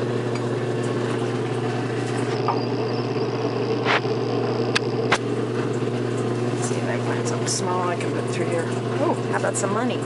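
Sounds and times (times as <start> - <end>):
washing machine motor humming: 0.0 - 10.0.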